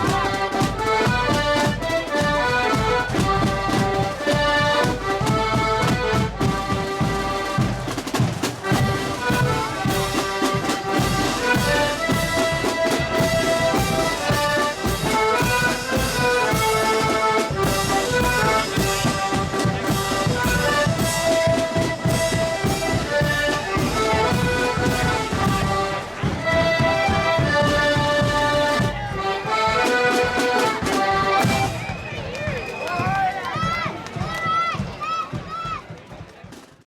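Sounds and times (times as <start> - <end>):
accordions playing melody: 0.0 - 32.0
steady drum beat: 0.0 - 36.6.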